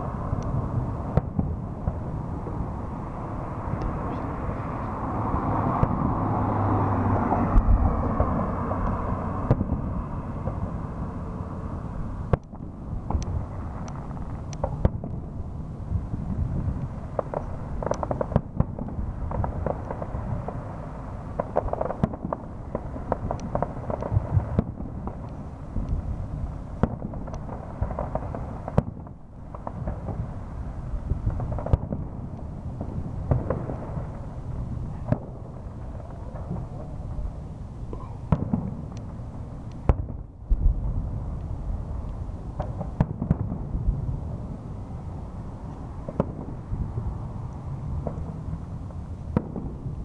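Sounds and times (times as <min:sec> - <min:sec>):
fireworks crackle: 0:00.0 - 0:05.0, 0:07.6 - 0:50.0
fireworks booming and bangs: 0:00.0 - 0:50.0.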